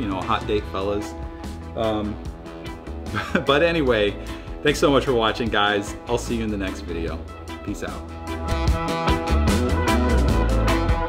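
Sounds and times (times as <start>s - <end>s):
music with guitar and drums: 0.0s - 11.0s.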